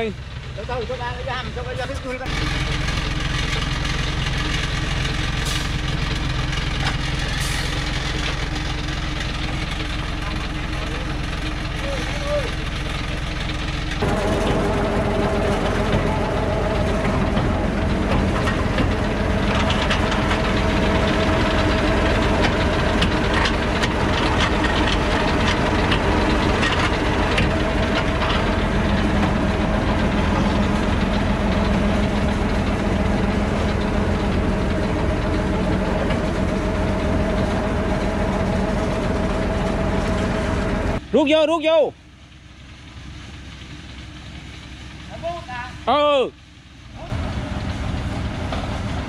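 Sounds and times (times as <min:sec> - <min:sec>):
truck clanking and rattling: 0:00.0 - 0:41.5, 0:47.1 - 0:49.0
truck diesel engine under load: 0:00.0 - 0:49.0.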